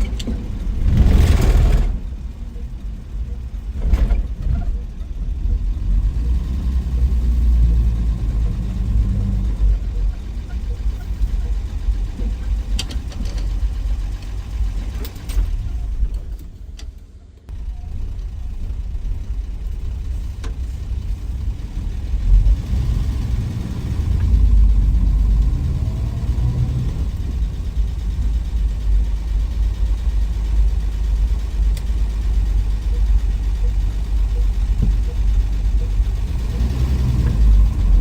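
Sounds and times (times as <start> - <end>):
car engine droning on road: 0.0 - 38.0.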